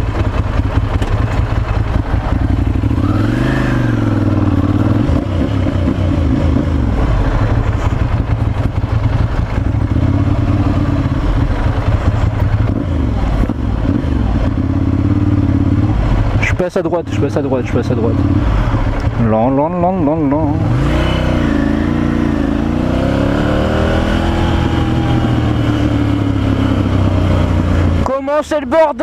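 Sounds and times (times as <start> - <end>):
motorcycle engine at low revs: 0.0 - 29.0
wind and road noise: 0.0 - 29.0.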